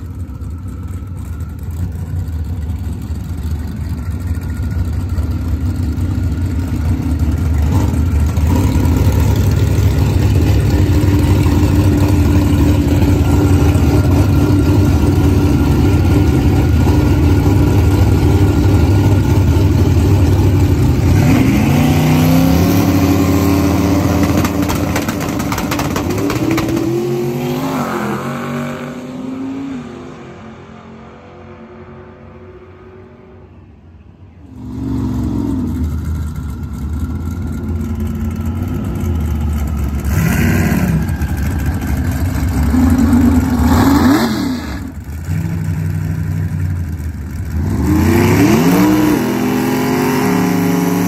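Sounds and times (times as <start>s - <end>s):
pickup engine running loud: 0.0s - 27.2s, 34.6s - 51.0s.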